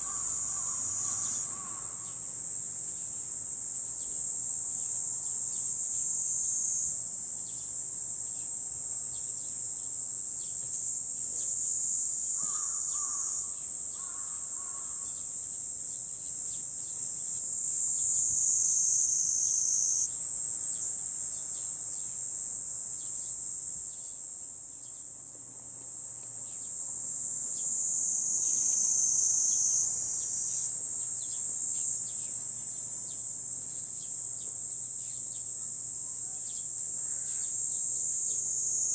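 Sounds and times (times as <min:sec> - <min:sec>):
cicadas shrilling: 0:00.0 - 0:38.9.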